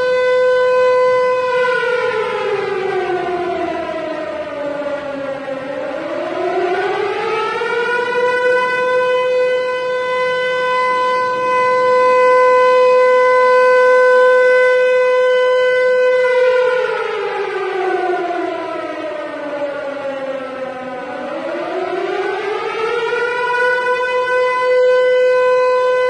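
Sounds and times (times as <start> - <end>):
civil defense siren wailing: 0.0 - 26.0.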